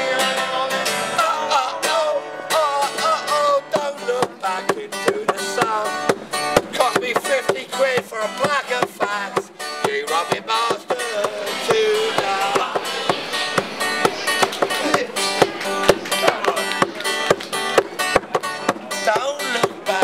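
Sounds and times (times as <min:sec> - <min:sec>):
person singing: 0:00.0 - 0:06.1, 0:06.7 - 0:18.1, 0:18.9 - 0:20.0
acoustic guitar strumming: 0:00.0 - 0:20.0.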